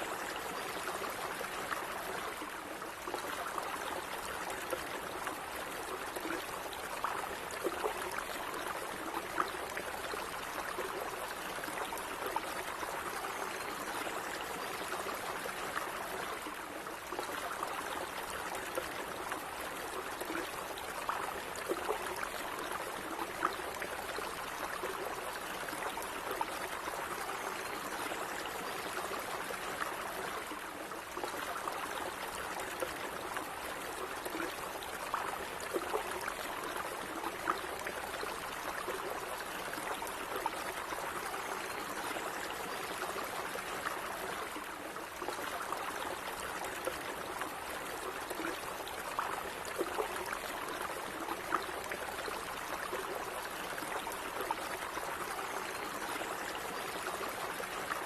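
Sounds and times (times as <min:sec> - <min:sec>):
small stream running: 0:00.0 - 0:58.0.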